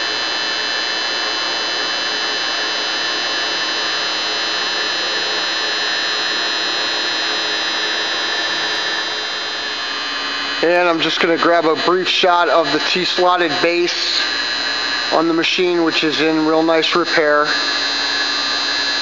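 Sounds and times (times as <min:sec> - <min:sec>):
drill press whirring: 0:00.0 - 0:19.0.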